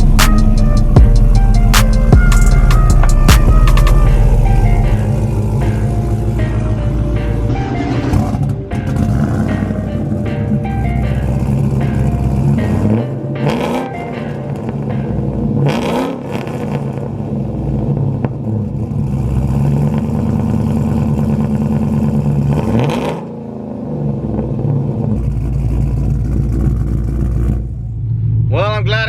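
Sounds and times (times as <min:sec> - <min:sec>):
pickup truck engine and exhaust: 0:00.0 - 0:29.0.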